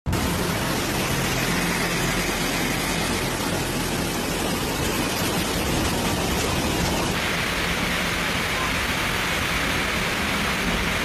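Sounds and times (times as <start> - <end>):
floodwater rushing: 0.1 - 11.0
heavy rain: 0.1 - 11.0.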